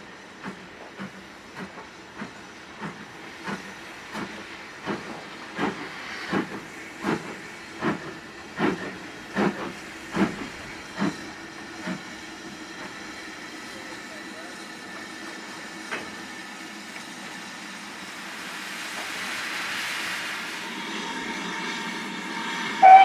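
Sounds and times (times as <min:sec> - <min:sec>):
steam hissing: 0:00.0 - 0:23.0
steam locomotive exhaust chuffs: 0:00.0 - 0:23.0.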